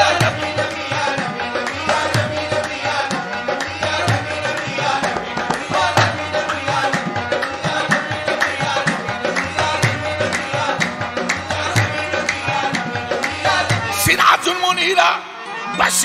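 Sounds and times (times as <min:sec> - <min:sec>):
harmonium tones: 0:00.0 - 0:16.0
tabla drumming: 0:00.0 - 0:16.0.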